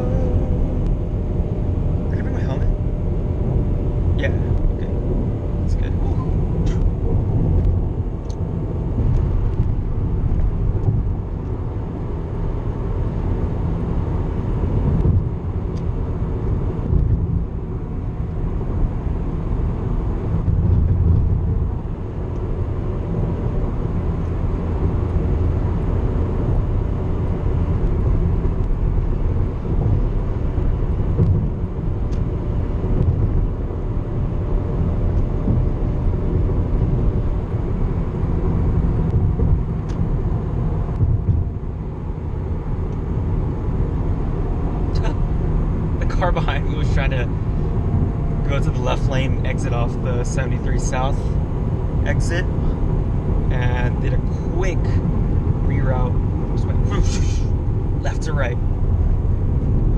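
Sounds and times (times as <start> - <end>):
car cabin road noise: 0.0 - 59.9.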